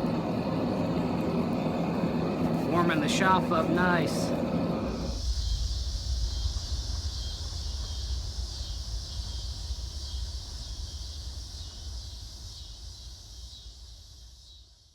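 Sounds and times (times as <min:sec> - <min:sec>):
forge burner flame rumbling and hissing: 0:00.0 - 0:14.9.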